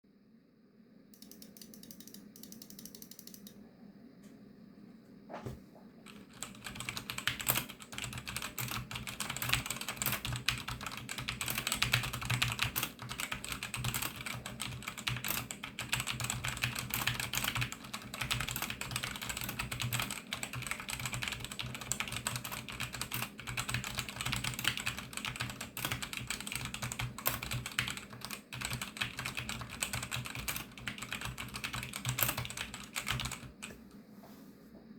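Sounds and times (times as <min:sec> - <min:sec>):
mechanical keyboard typing: 0:01.2 - 0:03.6, 0:06.1 - 0:33.8.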